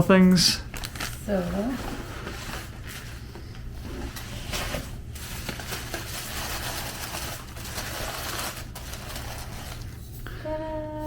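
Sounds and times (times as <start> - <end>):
low room hum: 0.0 - 11.0
packaging rustling and crinkling: 0.7 - 10.2.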